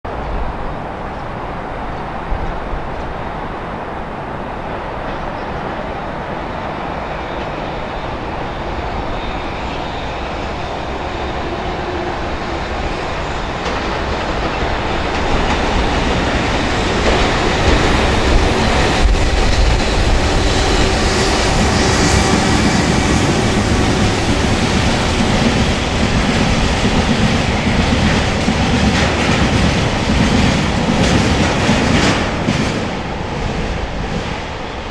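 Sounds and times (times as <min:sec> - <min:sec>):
freight train rolling past: 0:00.1 - 0:34.9.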